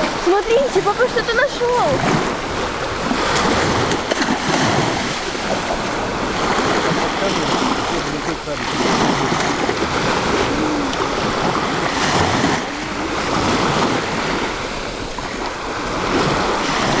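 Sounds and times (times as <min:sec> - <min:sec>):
sea water washing in shallows: 0:00.0 - 0:17.0
wind rumbling on microphone: 0:00.0 - 0:17.0.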